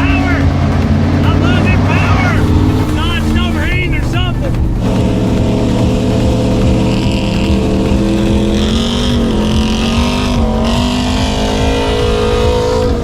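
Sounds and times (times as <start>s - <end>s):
truck engine pulling hard: 0.0s - 13.0s.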